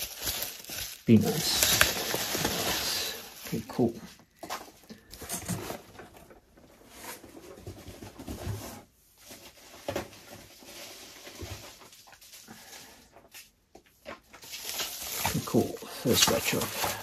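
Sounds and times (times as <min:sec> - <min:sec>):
bubble wrap and cardboard crinkling: 0:00.0 - 0:17.0.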